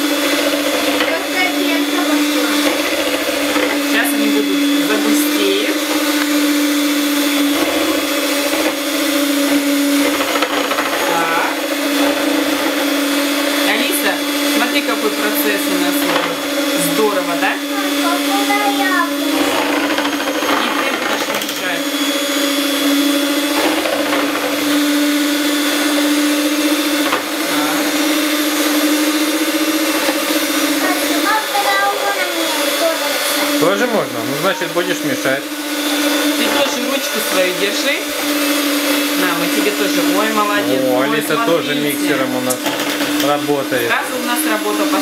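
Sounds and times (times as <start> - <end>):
electric hand mixer whipping cream: 0.0 - 45.0.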